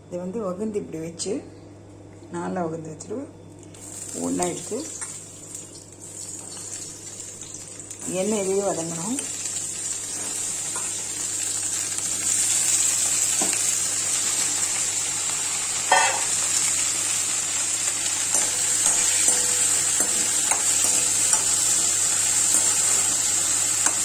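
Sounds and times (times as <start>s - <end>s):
eggplant sizzling in oil: 3.7s - 24.0s.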